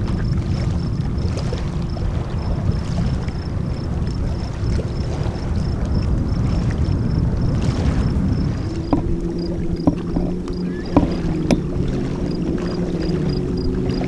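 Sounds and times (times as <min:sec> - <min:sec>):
small waves lapping: 0:00.0 - 0:14.0
wind rumbling on microphone: 0:00.0 - 0:14.0.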